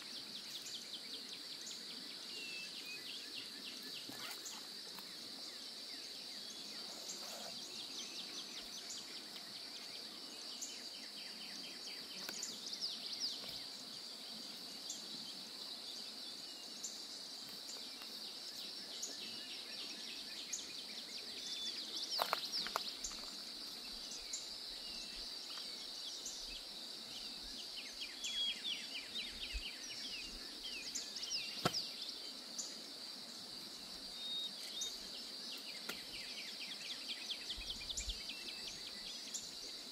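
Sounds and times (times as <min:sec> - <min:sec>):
birds chirping and trilling: 0:00.0 - 0:32.8
insects droning: 0:00.0 - 0:39.9.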